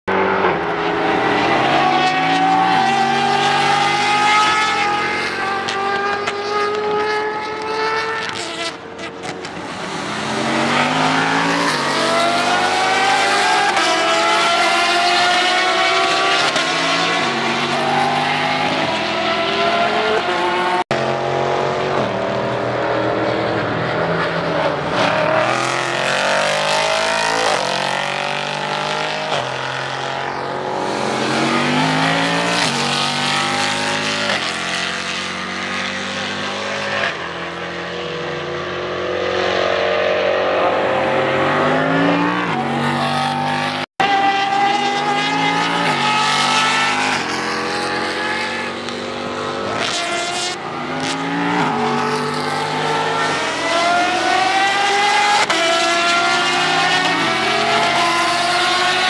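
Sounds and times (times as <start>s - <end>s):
racing car engines accelerating: 0.1s - 59.0s.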